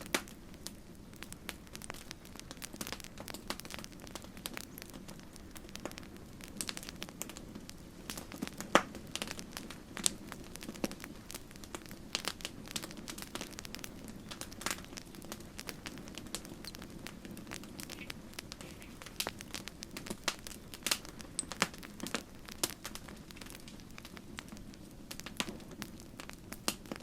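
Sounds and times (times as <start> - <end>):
burning wood pops and snaps: 0.0 - 27.0
low rush of flame: 0.0 - 27.0.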